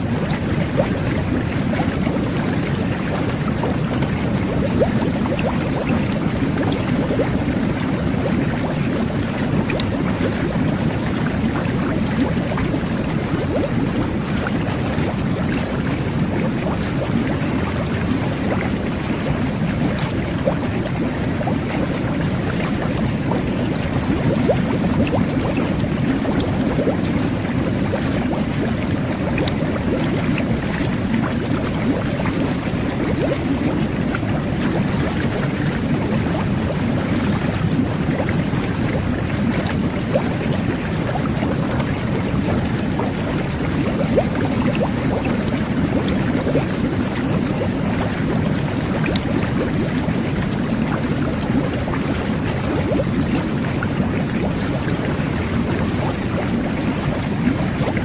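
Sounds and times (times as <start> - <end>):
jet bath water bubbling: 0.0 - 58.0.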